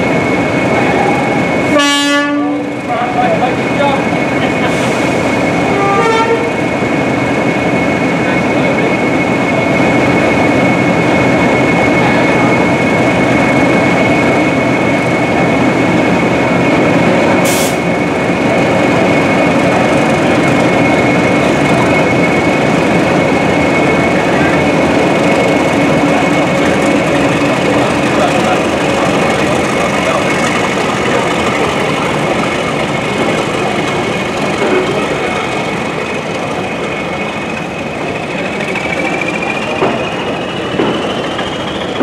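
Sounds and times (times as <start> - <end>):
diesel locomotive engines thrashing: 0.0 - 42.0.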